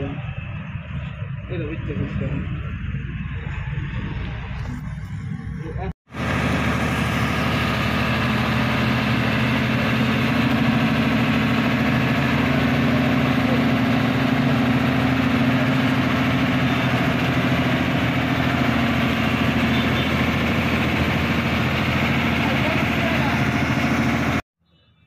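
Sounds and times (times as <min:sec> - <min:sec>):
truck diesel engine running: 0:00.0 - 0:24.4.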